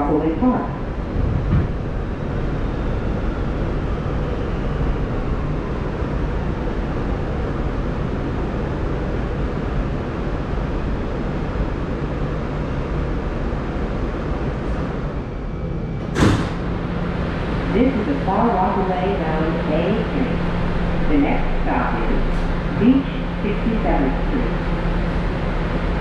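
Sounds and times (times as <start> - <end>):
subway car rumble: 0.0 - 26.0.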